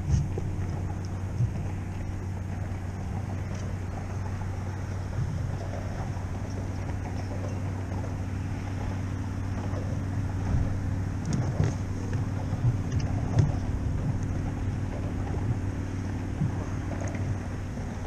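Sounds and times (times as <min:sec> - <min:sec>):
low motor hum: 0:00.0 - 0:18.0
wind on microphone: 0:00.0 - 0:18.0.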